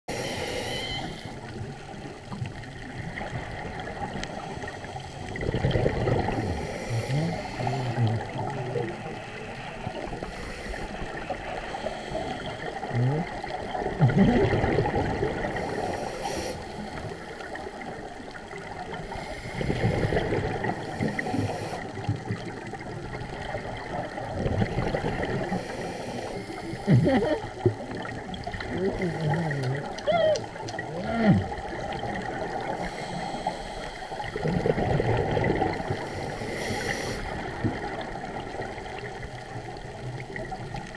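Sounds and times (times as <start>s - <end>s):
exhaled bubbles gurgling underwater: 0.1s - 40.9s
underwater water noise: 0.1s - 40.9s.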